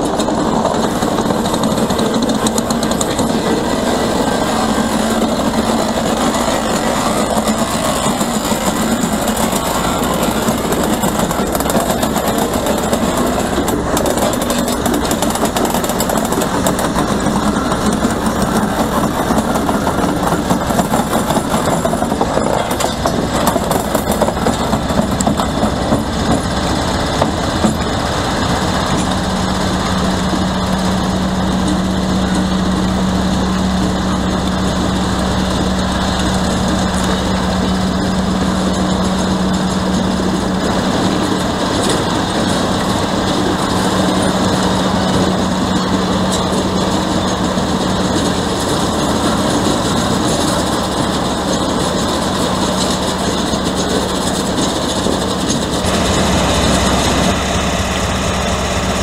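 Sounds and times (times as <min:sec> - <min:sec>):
locomotive engines idling: 0:00.0 - 0:59.0
steady low hum: 0:00.0 - 0:59.0.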